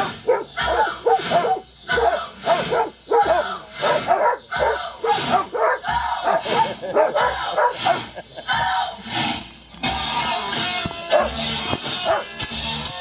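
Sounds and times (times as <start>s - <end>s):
puppies barking and yipping: 0.0s - 8.4s, 9.8s - 12.6s.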